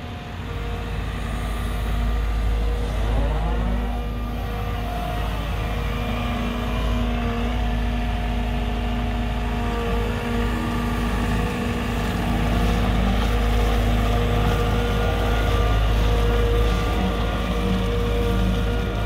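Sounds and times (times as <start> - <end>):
diesel engine rumble: 0.0 - 19.0
steady whine: 0.0 - 19.0.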